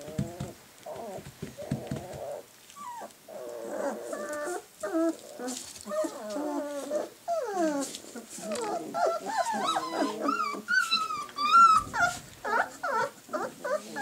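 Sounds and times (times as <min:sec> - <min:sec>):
puppies whining and whimpering: 0:00.1 - 0:14.0.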